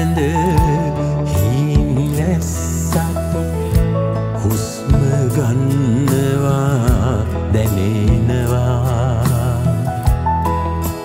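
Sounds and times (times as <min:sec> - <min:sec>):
wavering melody over bass: 0:00.0 - 0:11.0
low drum beat: 0:00.4 - 0:10.5.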